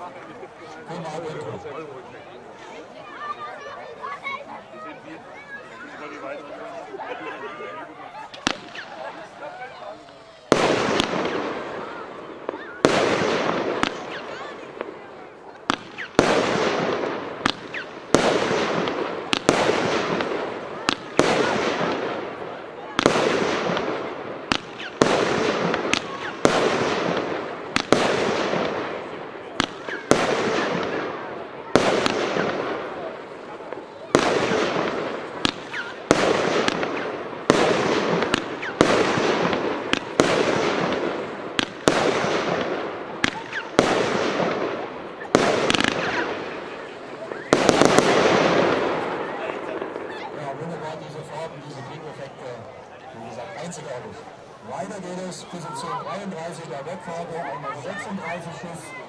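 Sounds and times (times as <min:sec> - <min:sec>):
fireworks bangs: 0:05.6 - 0:59.0.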